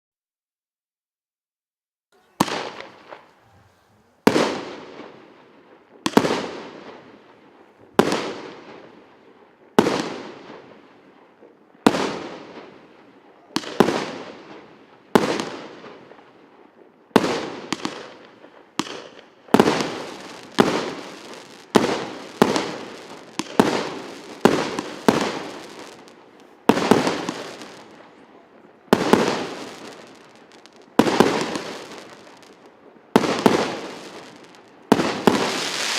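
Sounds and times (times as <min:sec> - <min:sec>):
firework bangs: 0:02.2 - 0:35.9
firework crackling: 0:02.2 - 0:35.9.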